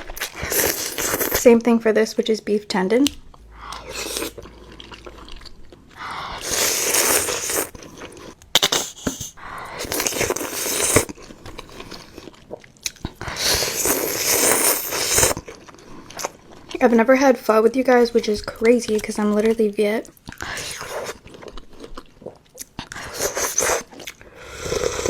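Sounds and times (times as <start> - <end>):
person eating noisily: 0.0 - 1.4, 3.3 - 16.8, 18.2 - 25.0
quiet chewing: 3.0 - 16.8, 18.1 - 25.0.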